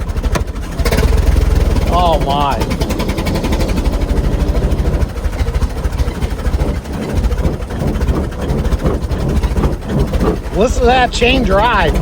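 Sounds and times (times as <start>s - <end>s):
large old engine pulsing: 0.0s - 12.0s.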